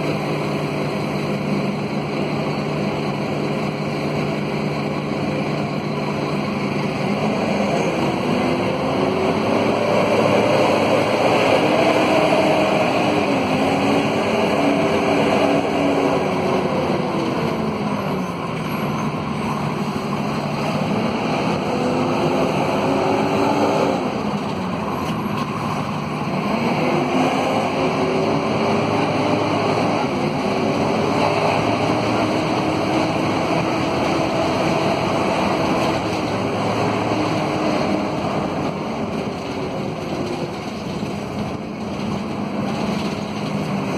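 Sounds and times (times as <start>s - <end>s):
bus diesel engine: 0.0s - 43.9s
road and cabin rumble: 0.0s - 43.9s.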